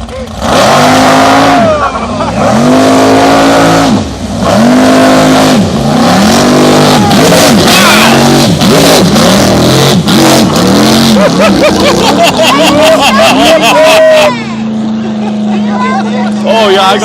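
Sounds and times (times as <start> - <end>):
boat engine revving: 0.0 - 17.0.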